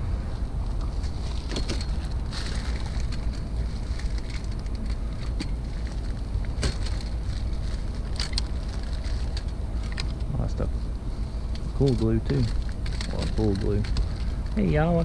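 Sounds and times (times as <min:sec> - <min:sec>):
handling clicks and rustles: 0:00.5 - 0:15.0.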